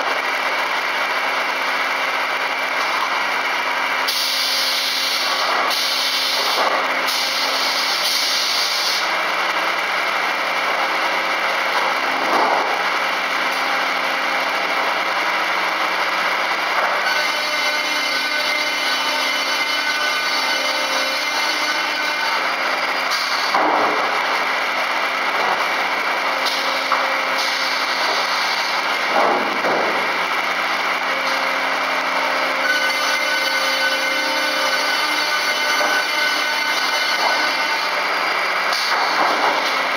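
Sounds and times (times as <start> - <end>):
circular saw cutting timber: 0.0 - 39.9.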